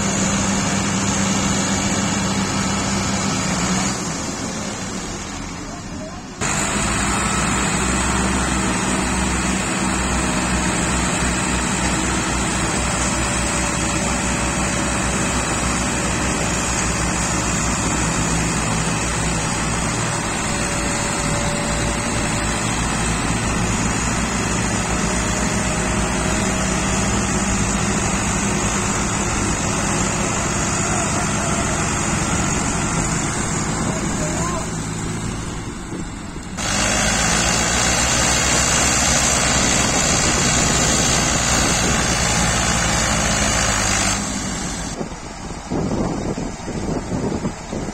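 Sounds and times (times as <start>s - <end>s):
tractor engines straining: 0.0s - 47.9s.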